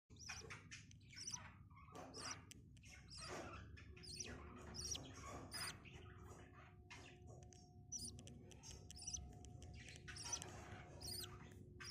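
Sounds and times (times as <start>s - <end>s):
budgies chirping: 0.1s - 11.9s.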